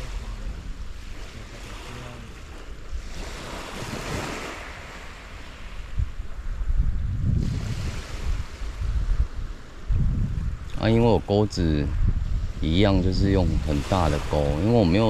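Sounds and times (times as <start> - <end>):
sea waves washing onto shore: 0.0 - 15.0
wind rumbling on microphone: 0.0 - 15.0.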